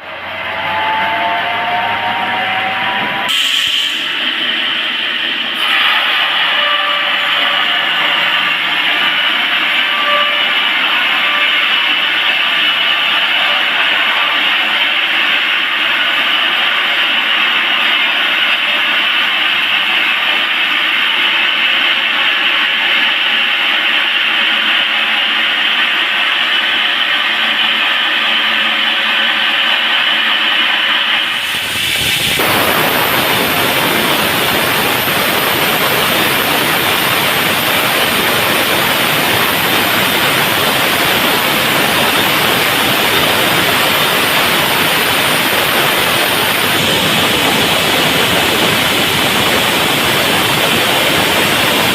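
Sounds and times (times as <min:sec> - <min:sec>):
sawmill saw running: 0:00.1 - 0:51.9.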